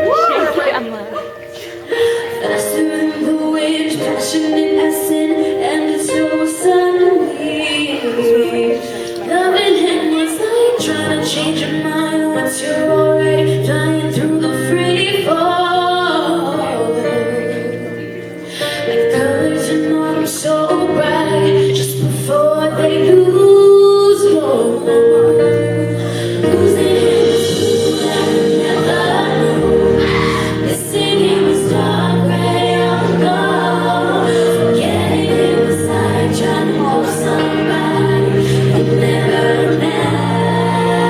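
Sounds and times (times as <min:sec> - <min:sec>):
female vocal group singing: 0:00.0 - 0:41.0
instrumental accompaniment: 0:00.0 - 0:41.0.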